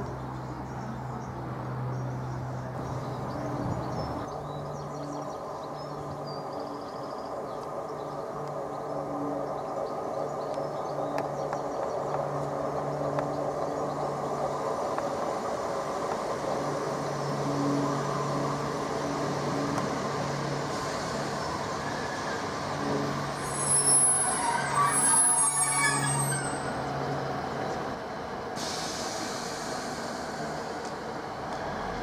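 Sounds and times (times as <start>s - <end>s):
diesel train engines droning: 0.0s - 32.0s.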